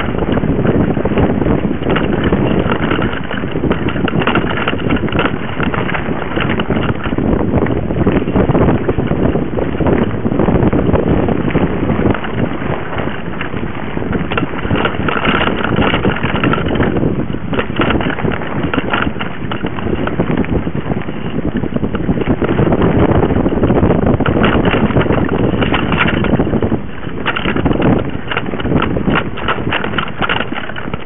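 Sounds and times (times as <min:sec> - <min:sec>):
bike rattling and knocking: 0:00.0 - 0:31.0
tyre noise on dirt trail: 0:00.0 - 0:31.0
wind buffeting microphone: 0:00.0 - 0:31.0.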